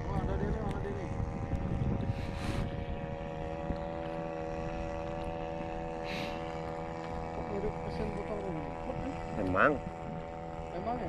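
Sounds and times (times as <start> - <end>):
boat engine running: 0.0 - 11.0
wind and water rumble: 0.0 - 11.0.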